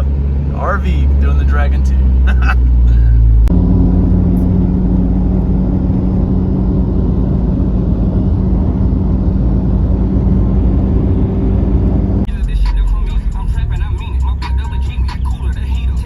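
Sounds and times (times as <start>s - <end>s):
car engine drone: 0.0s - 16.0s
road rumble: 0.0s - 16.0s.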